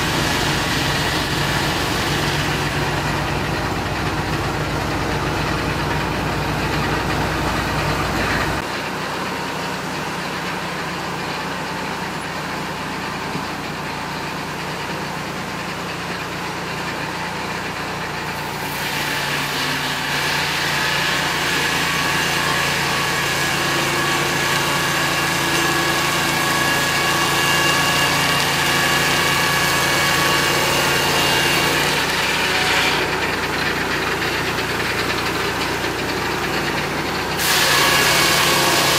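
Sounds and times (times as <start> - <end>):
circular saw cutting log: 0.0 - 38.9
sawmill engine droning: 0.0 - 38.9.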